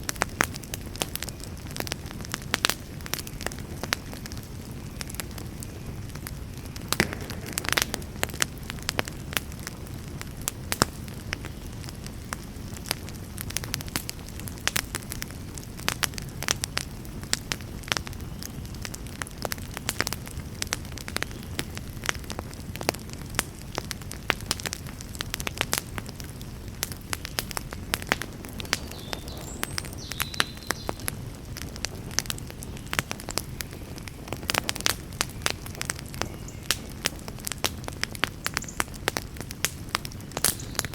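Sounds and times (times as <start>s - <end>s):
low rush of flames: 0.0s - 40.9s
wood fire crackling: 0.0s - 40.9s.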